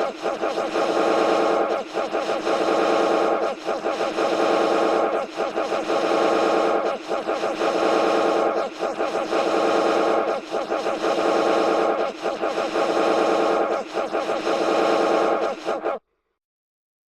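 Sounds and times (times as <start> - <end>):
buzzing alarm: 0.0 - 16.0.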